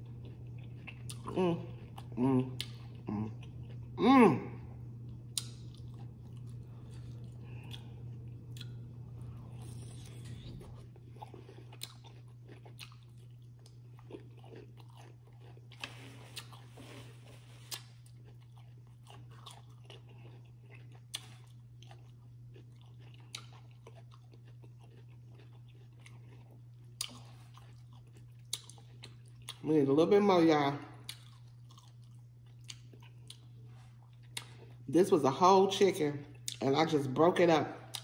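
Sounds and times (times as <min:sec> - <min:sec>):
chewing and biting chicken: 0:00.0 - 0:04.0, 0:05.0 - 0:29.7, 0:31.0 - 0:34.9
steady low hum: 0:00.0 - 0:38.0.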